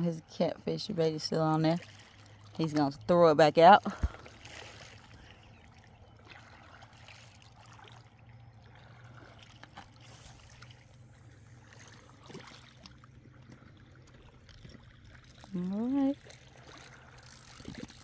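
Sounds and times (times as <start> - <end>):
water lapping on rocky shore: 0.2 - 18.0.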